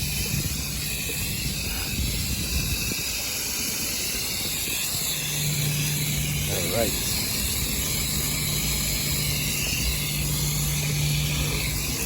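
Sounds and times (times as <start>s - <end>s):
hose spraying water: 0.0s - 12.0s
low machine hum: 0.0s - 12.0s.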